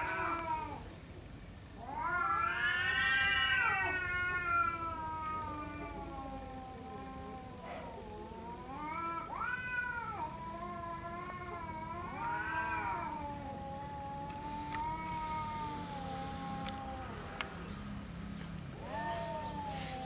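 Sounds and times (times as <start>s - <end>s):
cats yowling: 0.0s - 0.8s, 1.8s - 17.6s, 18.8s - 20.0s.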